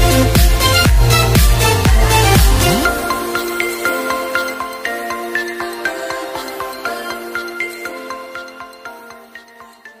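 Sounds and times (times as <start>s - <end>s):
bright background music: 0.0s - 10.0s.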